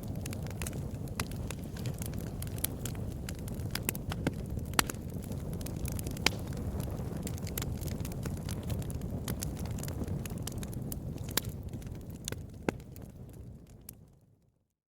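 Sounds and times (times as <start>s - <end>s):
fire crackling and popping: 0.0s - 14.5s
campfire flames rumbling: 0.0s - 14.6s.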